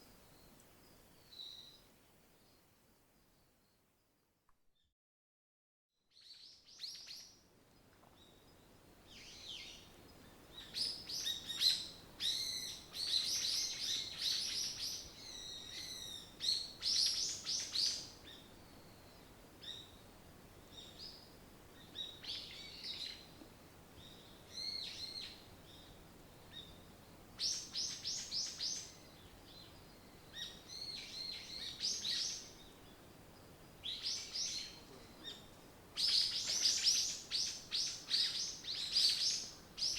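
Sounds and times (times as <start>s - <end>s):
faint background hiss: 0.0s - 4.7s, 6.1s - 39.9s
songbirds chirping and trilling: 6.2s - 39.9s.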